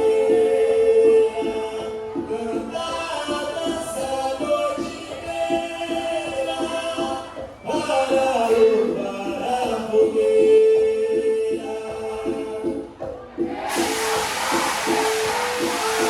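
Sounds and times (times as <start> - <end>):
dance music with singing: 0.0 - 16.0.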